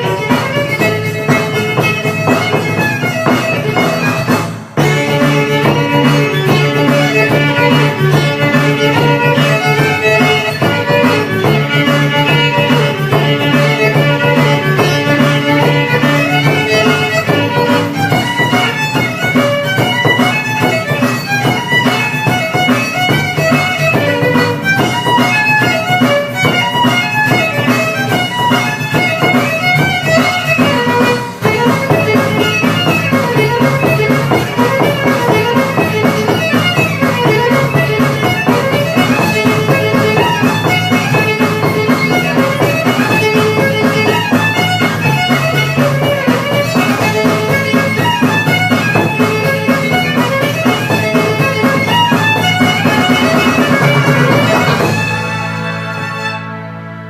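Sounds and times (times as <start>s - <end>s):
fiddle tune: 0.0s - 57.0s.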